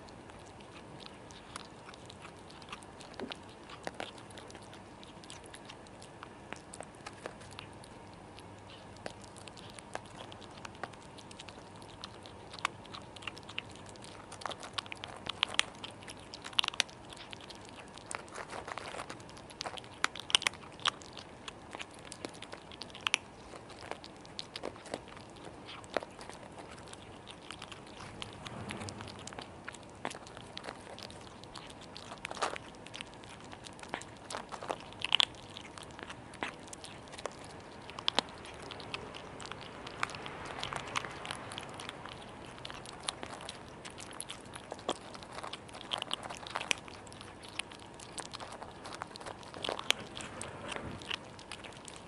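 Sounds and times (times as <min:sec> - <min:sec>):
cats crunching dry kibble: 0:00.0 - 0:52.0.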